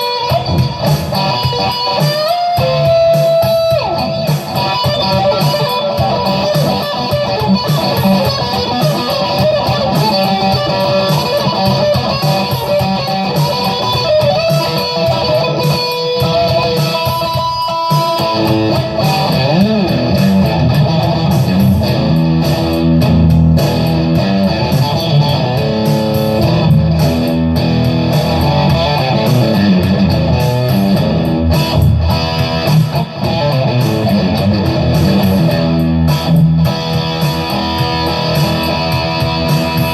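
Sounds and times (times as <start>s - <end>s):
loud electric guitar lead lines: 0.0s - 39.9s.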